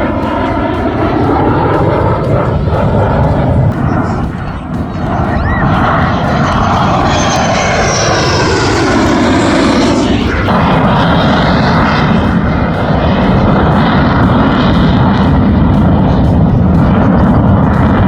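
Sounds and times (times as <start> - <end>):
fighter jet flying past: 0.0 - 18.0.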